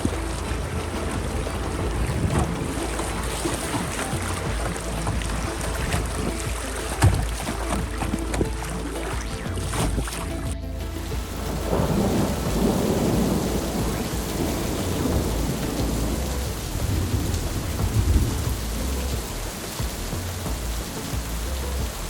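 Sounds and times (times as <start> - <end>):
thunder rumbling: 0.0 - 7.2, 9.2 - 22.0
heavy rain falling: 0.0 - 9.5, 10.3 - 22.0.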